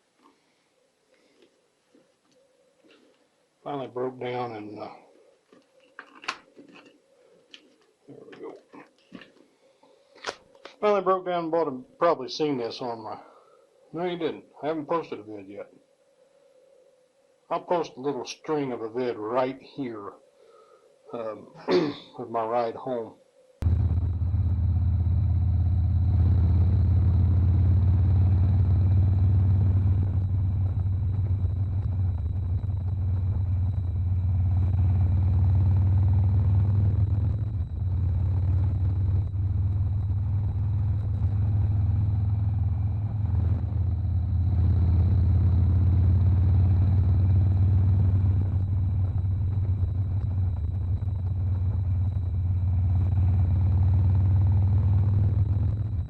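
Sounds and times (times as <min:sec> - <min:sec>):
faint high whine: 0:00.0 - 0:08.6, 0:09.6 - 0:56.0.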